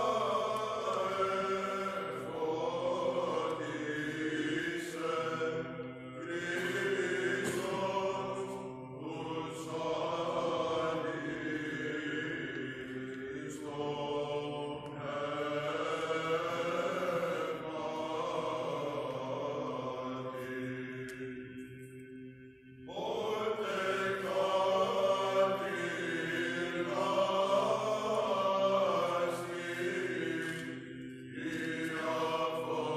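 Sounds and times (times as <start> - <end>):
men chanting a melody: 0.0 - 21.4, 22.9 - 30.6, 31.3 - 32.9
low held vocal drone: 0.0 - 21.5, 22.8 - 32.9.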